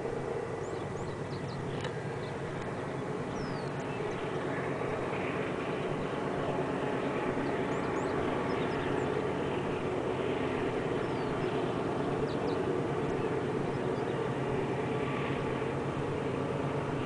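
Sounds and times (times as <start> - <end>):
distant diesel locomotives droning: 0.0 - 17.0.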